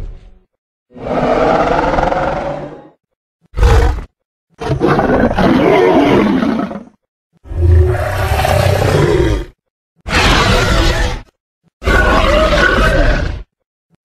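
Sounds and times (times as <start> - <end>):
creature roars: 1.0 - 2.8, 3.6 - 13.5.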